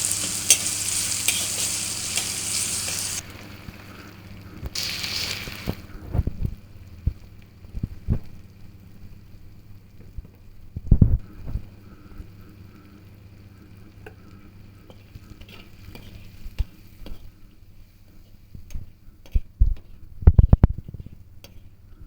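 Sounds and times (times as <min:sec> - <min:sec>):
food frying in a pan: 0:00.0 - 0:22.0.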